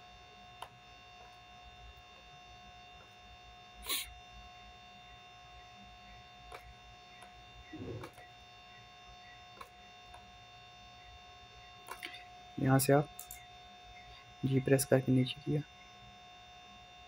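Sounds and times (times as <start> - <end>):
electrical hum and whine: 0.0 - 17.0.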